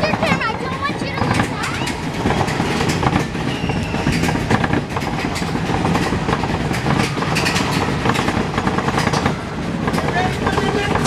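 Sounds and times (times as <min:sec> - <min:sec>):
roller coaster cars rattling: 0:00.0 - 0:11.0.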